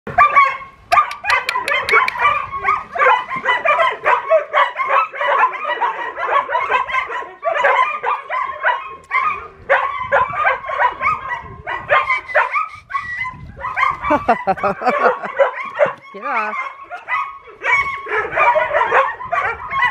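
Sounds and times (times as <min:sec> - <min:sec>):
dogs barking and yipping: 0:00.1 - 0:19.9.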